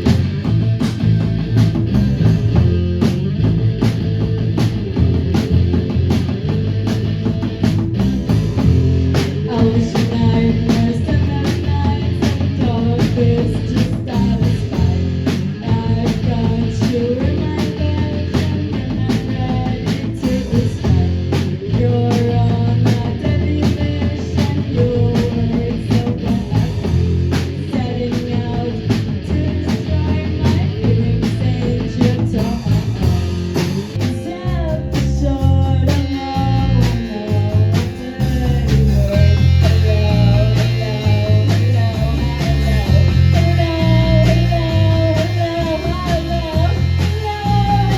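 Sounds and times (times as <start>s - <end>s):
rock band playing live: 0.0s - 47.9s.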